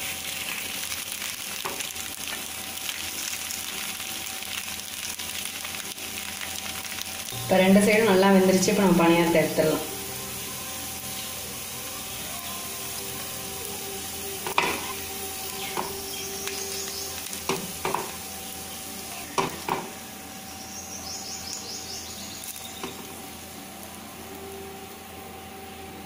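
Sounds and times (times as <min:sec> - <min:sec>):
oil sizzling in a pan: 0:00.0 - 0:26.0.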